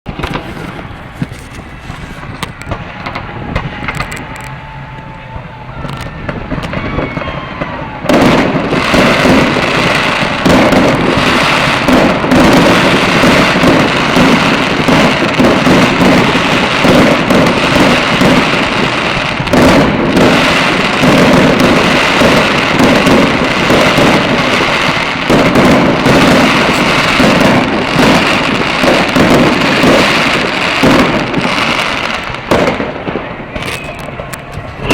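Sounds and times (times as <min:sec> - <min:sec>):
fireworks bangs and booms: 0:00.1 - 0:34.9.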